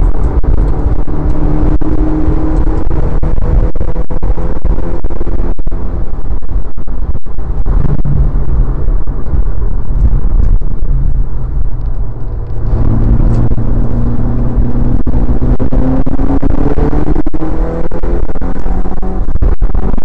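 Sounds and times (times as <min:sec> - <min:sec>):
car engine heard from inside: 0:00.0 - 0:20.0.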